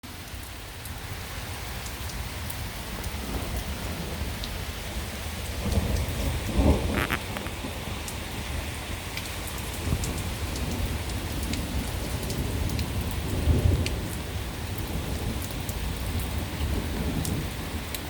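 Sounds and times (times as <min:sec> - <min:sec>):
rain falling: 0:00.0 - 0:18.0
thunder rumbling: 0:02.8 - 0:18.0.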